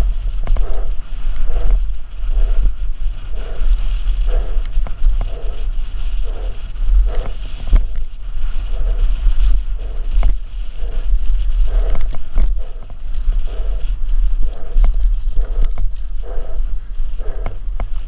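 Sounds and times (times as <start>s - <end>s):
tyres on dirt trail: 0.0s - 18.0s
wind buffeting microphone: 0.0s - 18.0s.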